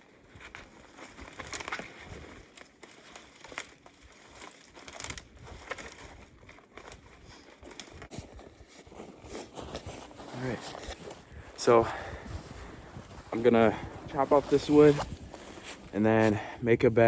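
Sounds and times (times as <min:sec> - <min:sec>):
footsteps crunching through snow: 0:00.2 - 0:16.5.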